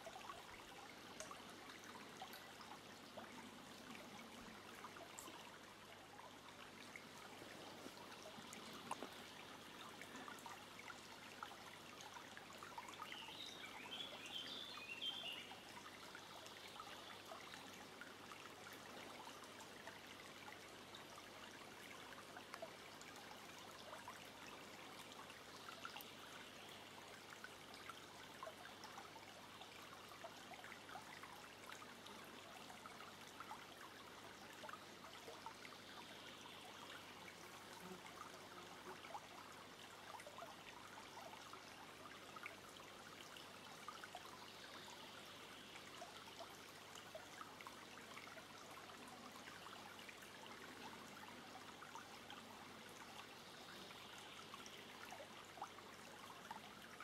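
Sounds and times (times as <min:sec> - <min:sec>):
brook trickling over stones: 0:00.0 - 0:57.0.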